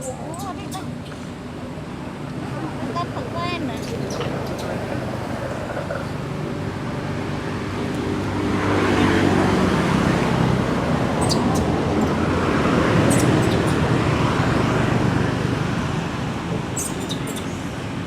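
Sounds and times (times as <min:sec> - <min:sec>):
steady engine hum: 0:00.0 - 0:18.0
vehicles driving past: 0:00.0 - 0:18.0.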